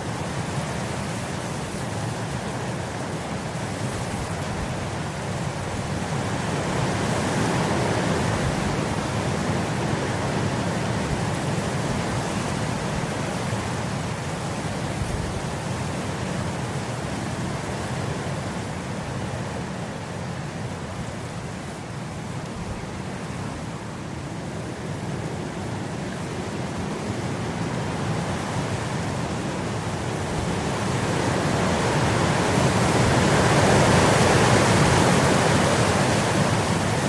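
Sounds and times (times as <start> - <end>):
wind blowing across grass: 0.0 - 37.0.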